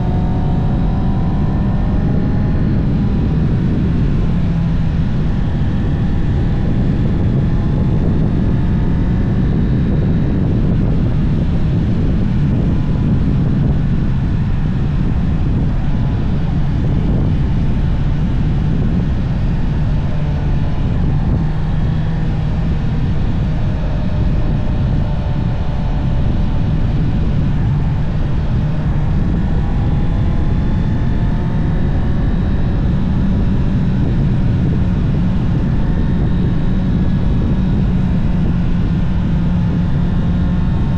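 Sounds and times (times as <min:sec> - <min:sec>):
motorcycle engine running: 0:00.0 - 0:40.9
wind rumble on microphone: 0:00.0 - 0:40.9.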